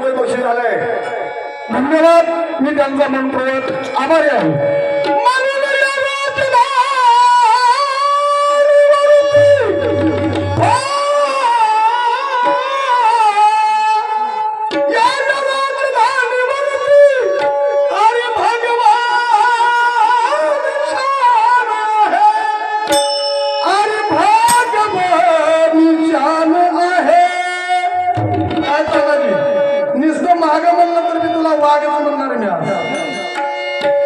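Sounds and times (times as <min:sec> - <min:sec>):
tabla: 0:00.0 - 0:34.0.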